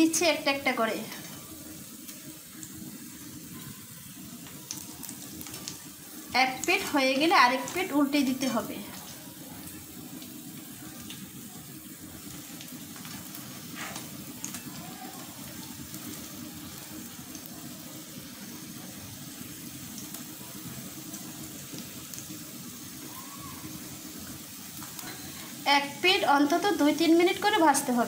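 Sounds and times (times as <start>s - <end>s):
oil sizzling in a frying pan: 0.0s - 28.0s.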